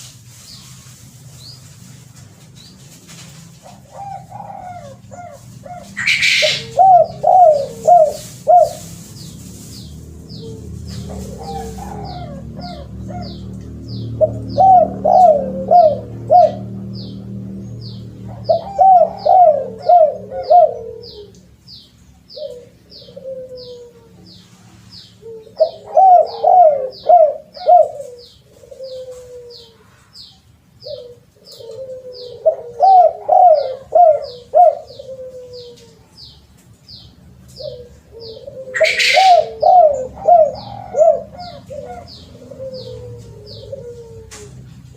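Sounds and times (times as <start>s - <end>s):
dove cooing: 3.1s - 36.5s, 37.3s - 44.9s.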